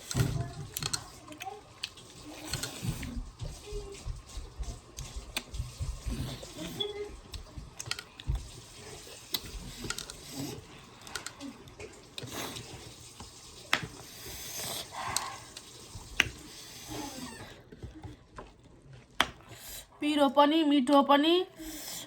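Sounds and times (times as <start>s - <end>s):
wet chewing and sucking: 0.0s - 20.0s.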